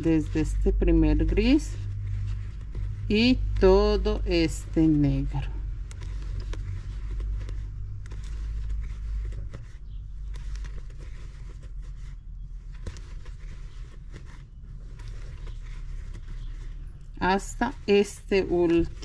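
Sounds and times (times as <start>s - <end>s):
yarn rustling: 0.0s - 19.0s.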